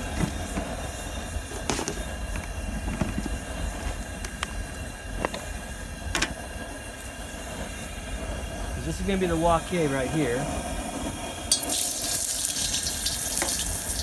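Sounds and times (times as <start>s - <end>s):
gas burner rushing: 0.0s - 14.0s.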